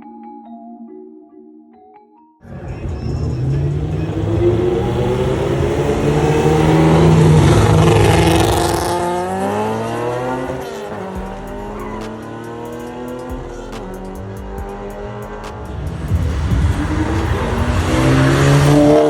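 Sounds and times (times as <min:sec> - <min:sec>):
car engine at high revs: 0:02.4 - 0:19.0
tires squealing: 0:02.4 - 0:19.0.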